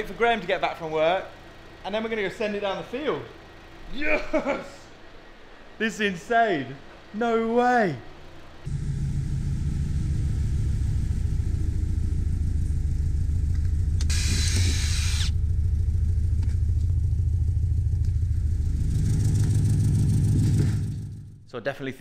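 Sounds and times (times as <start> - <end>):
car engine running: 0.0 - 5.3, 8.6 - 21.5.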